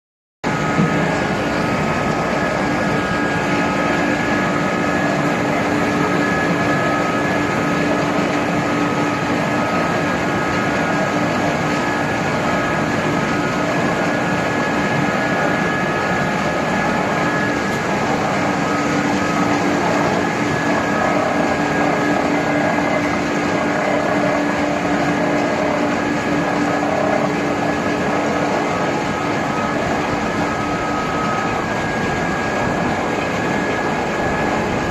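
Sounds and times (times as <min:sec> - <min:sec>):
industrial machinery drone: 0:00.4 - 0:34.9.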